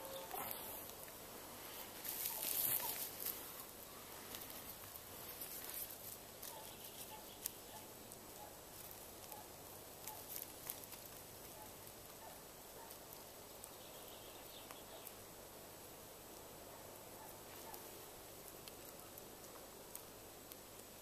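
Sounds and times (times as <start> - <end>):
fire popping and snapping: 0.0 - 21.0
twigs crackling in fire: 0.0 - 21.0.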